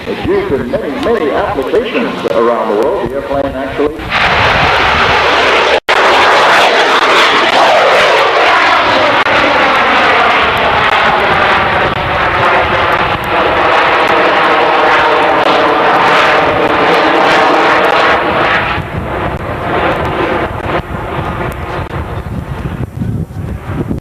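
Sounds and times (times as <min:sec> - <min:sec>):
low-flying aircraft passing overhead: 0:00.0 - 0:24.0.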